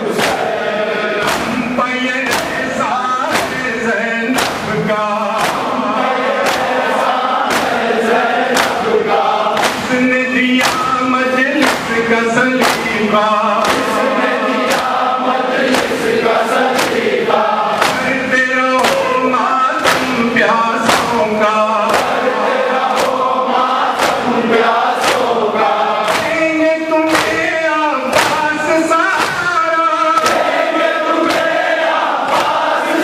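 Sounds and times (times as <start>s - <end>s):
man chanting into microphone: 0.0s - 31.2s
group chanting: 0.0s - 33.0s
rhythmic chest slaps: 0.0s - 33.0s.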